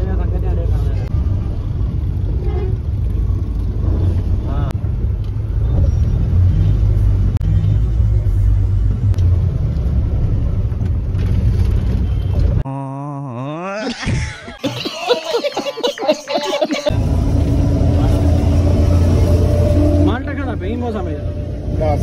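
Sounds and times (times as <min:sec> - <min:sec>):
engine and road rumble in cabin: 0:00.0 - 0:12.7, 0:14.5 - 0:22.0.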